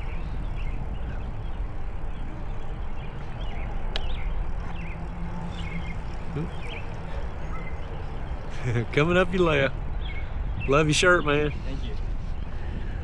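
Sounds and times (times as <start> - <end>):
bike tyres rolling on pavement: 0.0 - 13.0
wind rumbling on microphone: 0.0 - 13.0.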